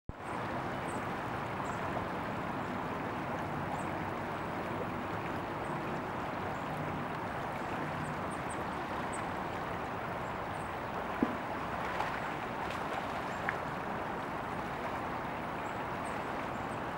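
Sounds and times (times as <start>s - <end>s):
creek flowing over gravel: 0.1s - 16.9s.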